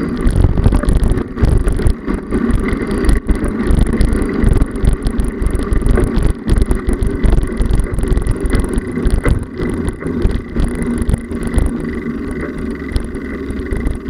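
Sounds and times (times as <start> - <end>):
bicycle knocks and rattles: 0.0 - 14.0
road rumble: 0.0 - 14.0
wind buffeting microphone: 0.0 - 14.0.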